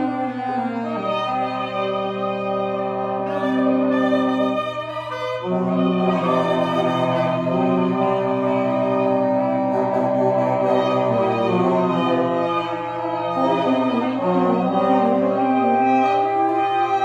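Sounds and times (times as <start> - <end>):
clarinet and saxophones improvising: 0.0 - 17.0.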